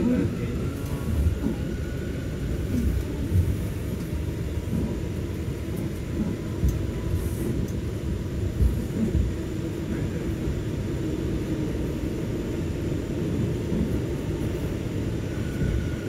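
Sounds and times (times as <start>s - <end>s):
subway wheels rumbling on rails: 0.0s - 16.0s.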